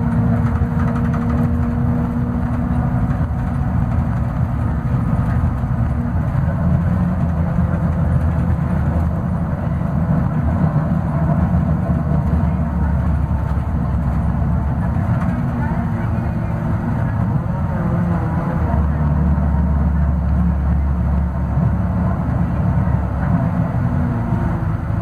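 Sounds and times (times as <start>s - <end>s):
bus diesel engine drone: 0.0s - 25.0s.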